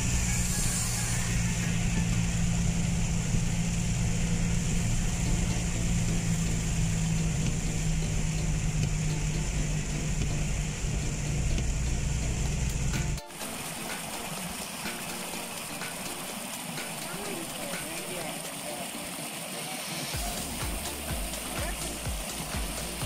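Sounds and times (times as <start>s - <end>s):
car engine running: 0.0s - 18.9s, 20.2s - 23.0s
rain hissing: 0.0s - 23.0s
tyres on wet road: 0.0s - 23.0s.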